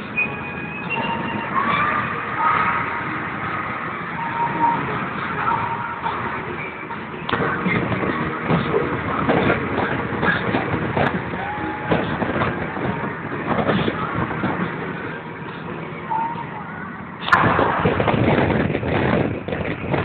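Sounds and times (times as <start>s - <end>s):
road and engine noise: 0.0s - 20.0s
rush of wind: 1.0s - 20.0s.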